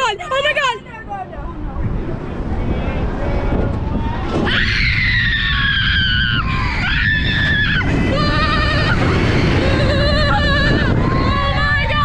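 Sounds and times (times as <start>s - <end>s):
low rushing noise: 0.5s - 12.0s.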